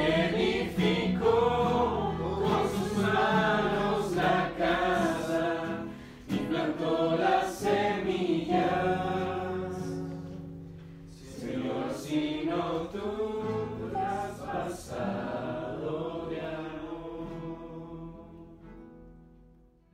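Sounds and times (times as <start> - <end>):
choir-like voices chanting: 0.0 - 10.4, 11.1 - 18.6.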